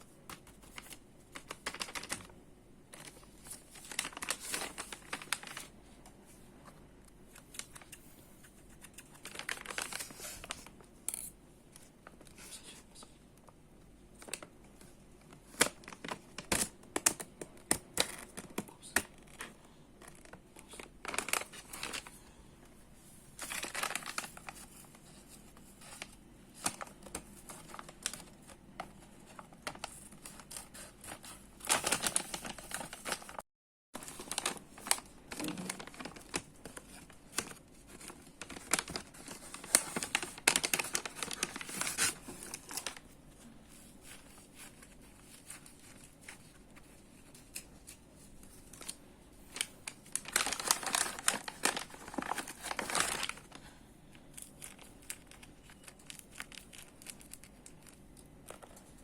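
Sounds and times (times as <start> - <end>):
packaging crinkling and tearing: 0.3 - 2.3, 2.9 - 5.7, 8.7 - 10.8, 15.3 - 22.2, 23.4 - 33.4, 34.0 - 43.1, 43.8 - 59.0.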